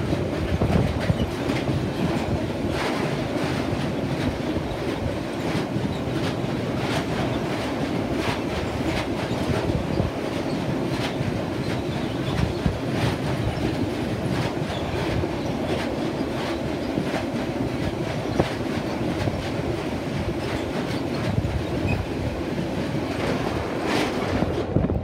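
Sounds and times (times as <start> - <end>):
clickety-clack of wheels on rail joints: 0.0 - 25.0
freight train rolling past: 0.0 - 25.0.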